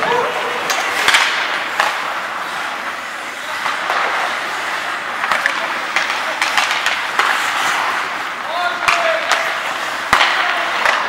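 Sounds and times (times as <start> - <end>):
hockey sticks and puck clacking: 0.0 - 11.0
skates scraping on ice: 0.0 - 11.0.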